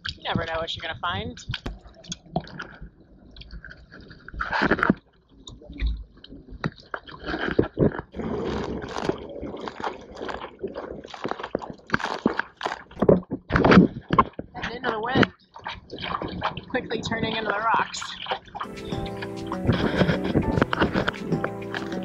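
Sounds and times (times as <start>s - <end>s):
water splashing against board: 3.4s - 22.0s.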